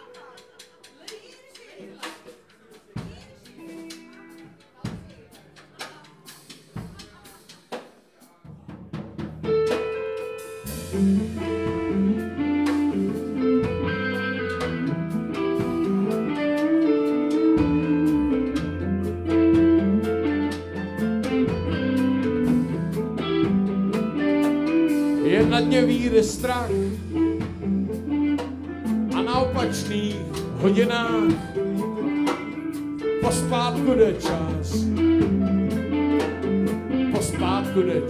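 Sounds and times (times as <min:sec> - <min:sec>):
band playing instrumental intro: 0:00.0 - 0:38.0.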